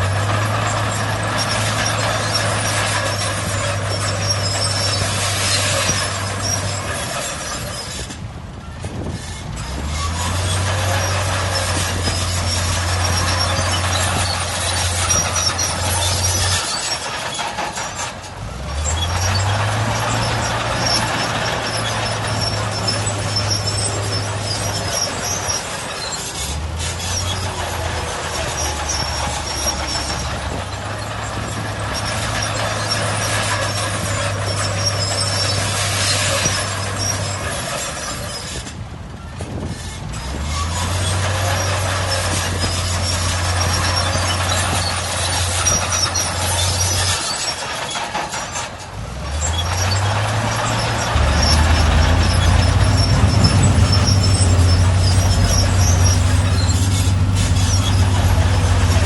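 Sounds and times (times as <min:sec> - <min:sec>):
diesel engine droning: 0:00.0 - 0:59.0
machinery clatter: 0:00.0 - 0:59.0.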